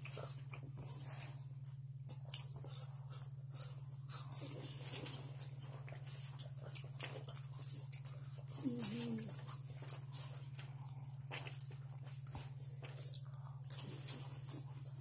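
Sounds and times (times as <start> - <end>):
chips being chewed: 0.0 - 15.0
steady low hum: 0.0 - 15.0.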